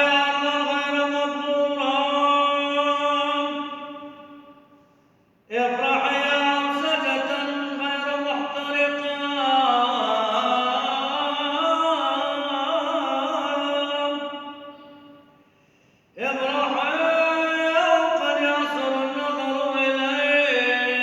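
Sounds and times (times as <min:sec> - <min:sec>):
man chanting a prayer: 0:00.0 - 0:04.6, 0:05.5 - 0:15.3, 0:16.2 - 0:21.0.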